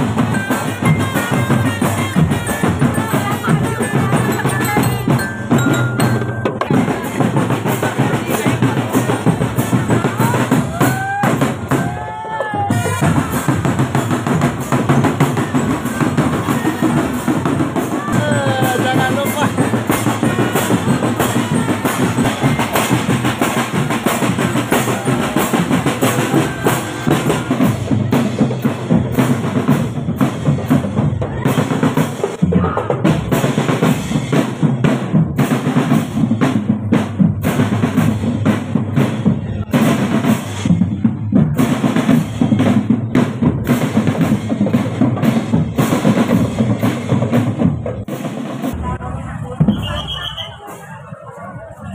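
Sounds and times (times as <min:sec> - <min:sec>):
snare and bass drums: 0:00.0 - 0:51.0.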